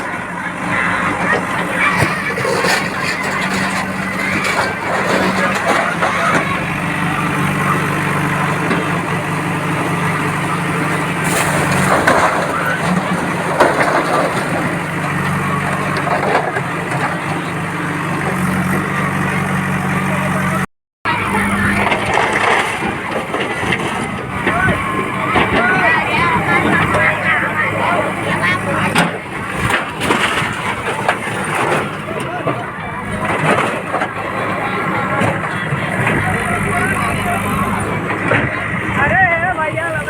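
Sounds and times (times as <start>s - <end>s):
bulldozer engine running: 0.0s - 40.0s
people talking: 0.0s - 40.0s.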